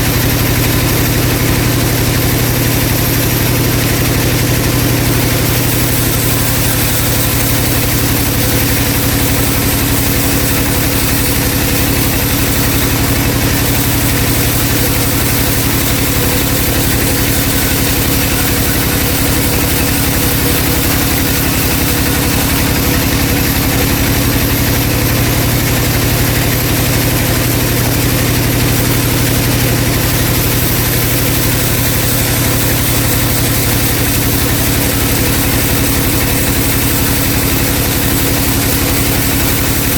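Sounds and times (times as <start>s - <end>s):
band saw humming: 0.0s - 39.9s.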